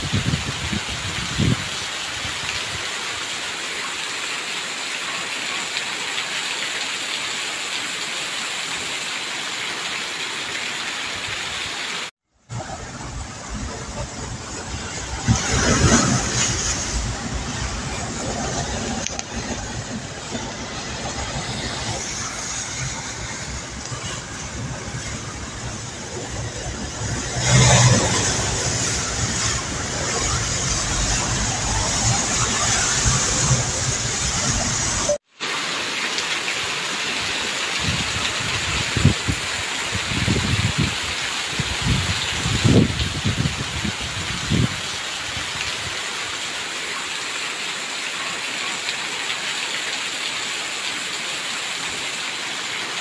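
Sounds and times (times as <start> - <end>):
floodwater rushing: 0.0 - 53.0
heavy rain pouring: 0.0 - 53.0.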